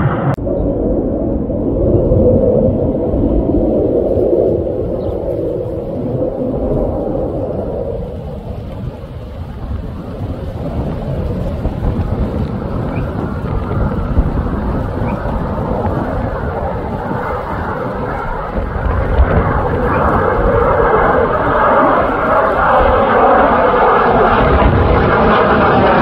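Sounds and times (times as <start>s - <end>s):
fighter jet rumble and hiss: 0.0s - 26.0s.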